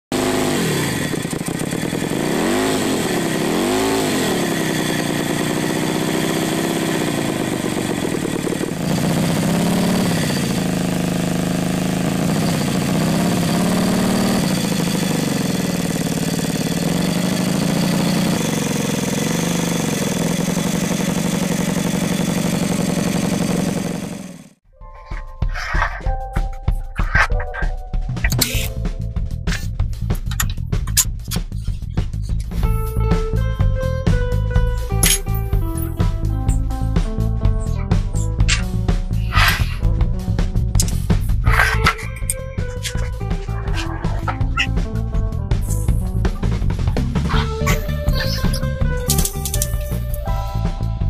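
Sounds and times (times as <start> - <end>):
two-cylinder engine revving: 0.0 - 24.6, 32.0 - 51.0.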